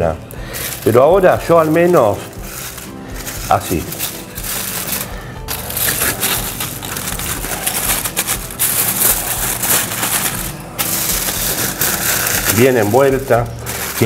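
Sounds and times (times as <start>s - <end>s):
aluminium foil crinkling: 0.4s - 14.0s.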